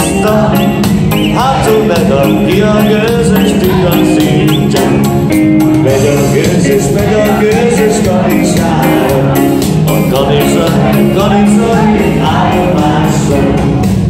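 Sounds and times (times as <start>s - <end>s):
loud dance music with singing: 0.0s - 14.0s.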